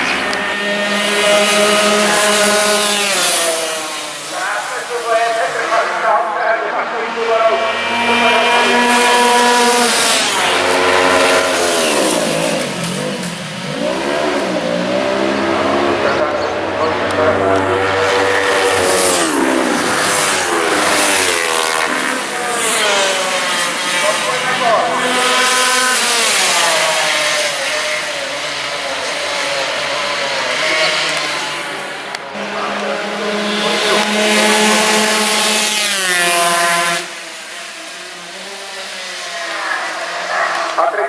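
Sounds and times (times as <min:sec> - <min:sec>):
racing motorcycles passing: 0:00.0 - 0:41.0.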